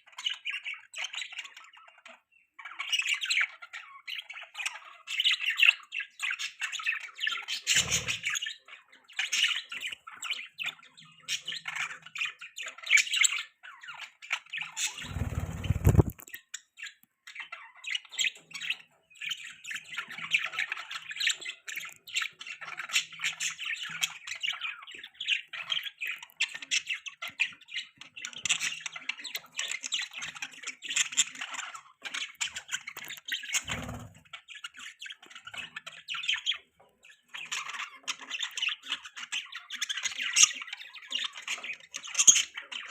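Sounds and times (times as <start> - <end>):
budgerigars chirping: 2.6 - 16.3, 17.4 - 42.9.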